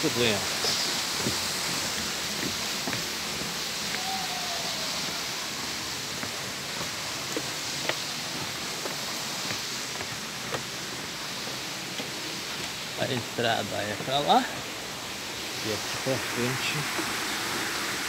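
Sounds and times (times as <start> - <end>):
waterfall rushing: 0.0 - 18.0
footsteps on wooden boardwalk: 0.3 - 15.6.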